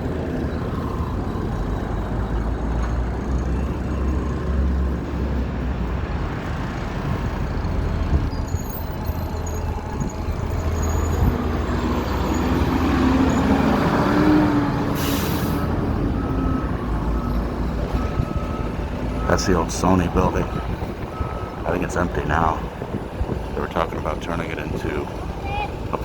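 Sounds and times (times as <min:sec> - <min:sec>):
large engine approaching: 0:00.0 - 0:26.0
passing cars and heavy vehicles: 0:00.0 - 0:26.0.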